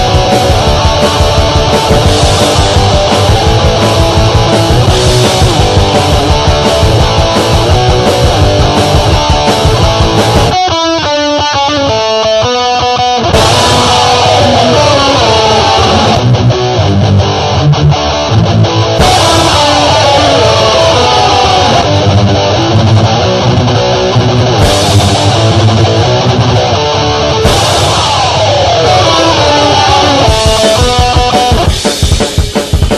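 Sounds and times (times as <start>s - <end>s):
punk rock instrumental: 0.0s - 32.9s.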